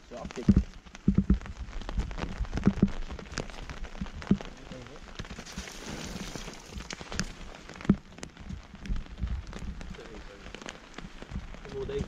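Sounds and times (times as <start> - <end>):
rain on a plastic tarp: 0.0 - 12.0.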